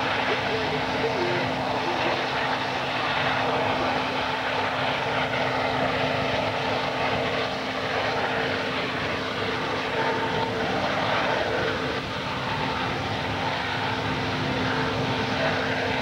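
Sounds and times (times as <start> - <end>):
tractor engine running hard: 0.0 - 16.0
turbine whine: 0.0 - 16.0.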